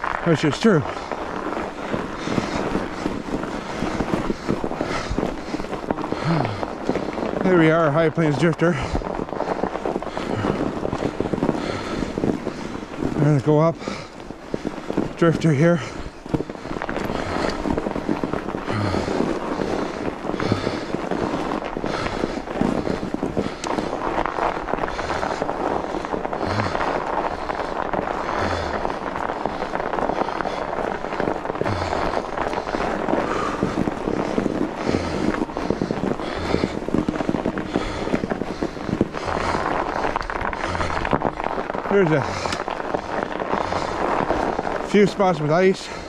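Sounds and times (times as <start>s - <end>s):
bike tyres crunching over snow: 0.0s - 46.0s.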